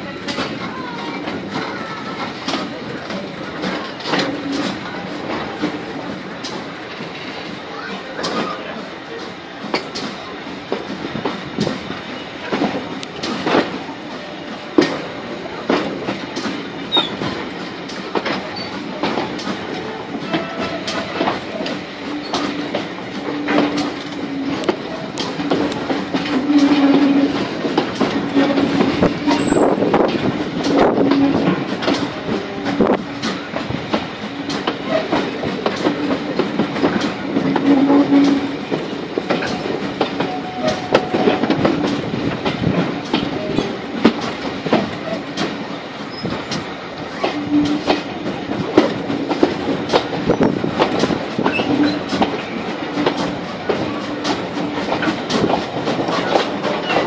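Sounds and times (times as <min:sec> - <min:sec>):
train wheels clicking over track joints: 0:00.0 - 0:57.0.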